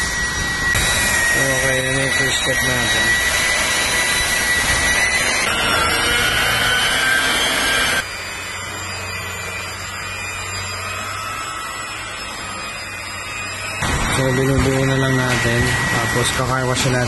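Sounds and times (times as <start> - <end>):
rotary polisher whirring: 0.0 - 17.0
steady hum: 0.0 - 17.0.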